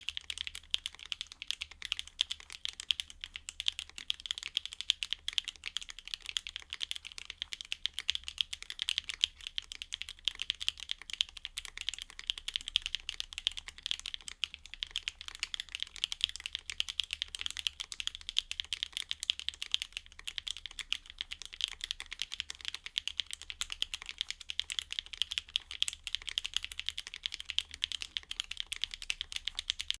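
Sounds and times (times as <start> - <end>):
fast mechanical keyboard typing: 0.0 - 30.0.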